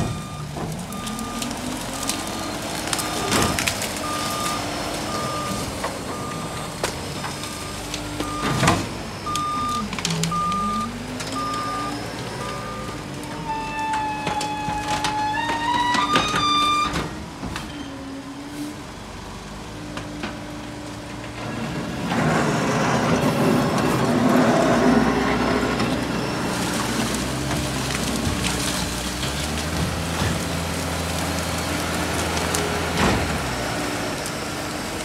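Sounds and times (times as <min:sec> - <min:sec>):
heavy vehicle engine running: 0:00.0 - 0:35.0.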